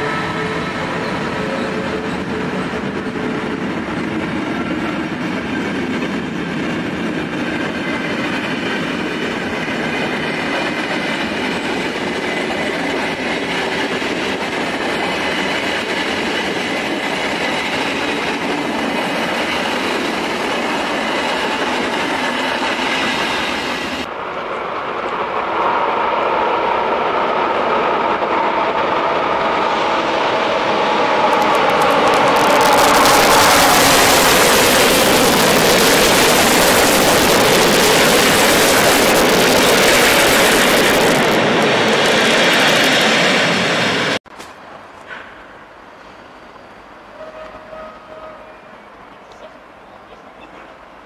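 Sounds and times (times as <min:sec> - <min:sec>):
loud train on rails: 0:00.0 - 0:51.0
train wheels rumbling on track: 0:00.0 - 0:51.0.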